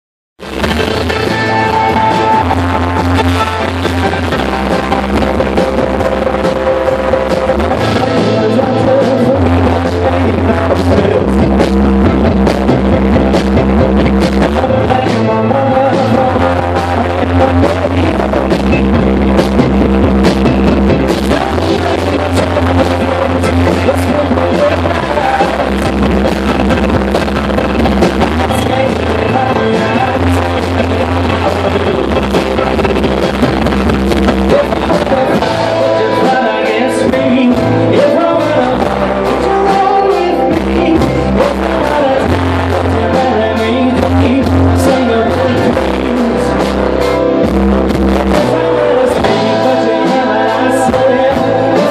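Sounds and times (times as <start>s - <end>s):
bass guitar low notes: 0.4s - 51.9s
rock band playing live: 0.4s - 51.9s.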